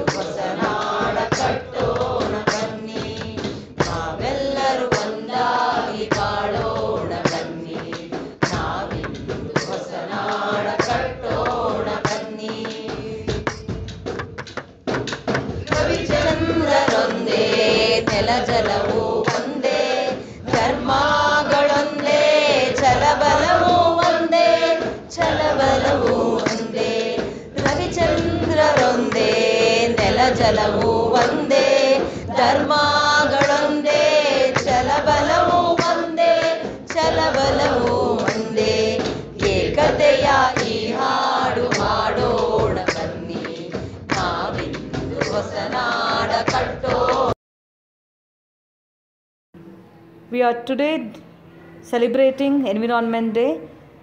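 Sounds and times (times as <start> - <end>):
group of voices singing: 0.0 - 14.2, 15.4 - 47.4.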